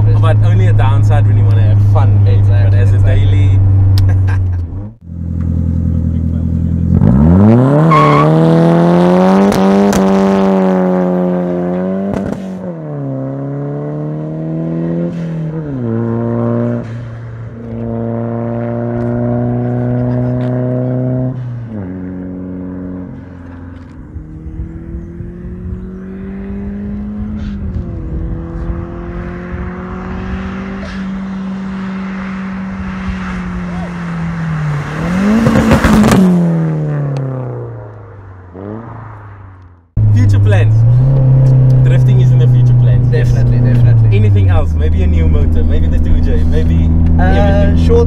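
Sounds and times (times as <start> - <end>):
car engine revving: 0.0 - 48.0
car exhaust pulling away: 0.0 - 48.0.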